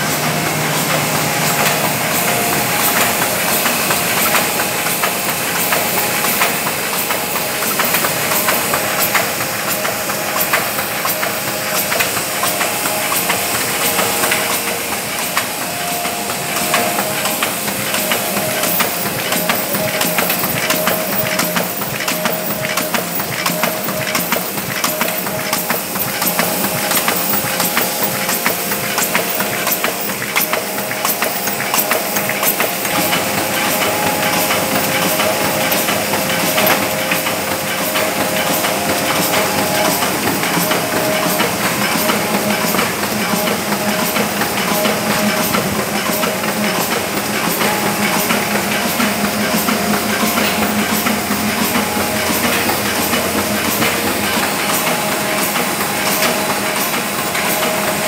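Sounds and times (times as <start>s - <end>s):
printing press clattering: 0.0s - 58.0s.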